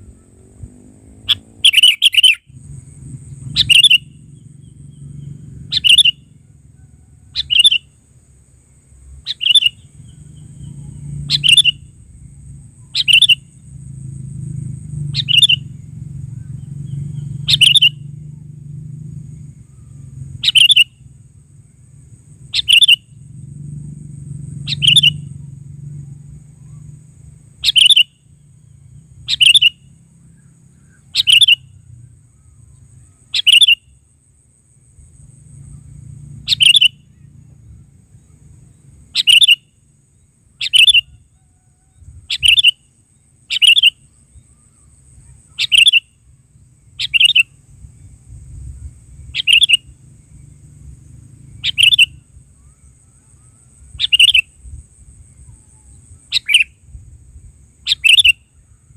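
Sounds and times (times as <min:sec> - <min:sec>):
bird calling: 0:00.0 - 0:08.1, 0:09.0 - 0:21.3, 0:22.3 - 0:23.4, 0:24.5 - 0:34.1, 0:35.6 - 0:56.9, 0:57.8 - 0:58.9.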